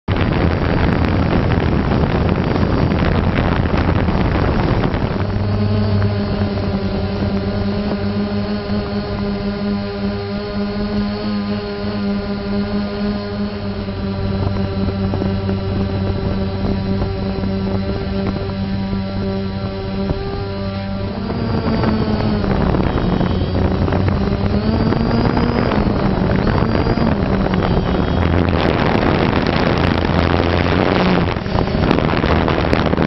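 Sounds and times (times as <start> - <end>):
drone propellers humming: 0.0 - 33.0
wind rumble on microphone: 0.0 - 33.0.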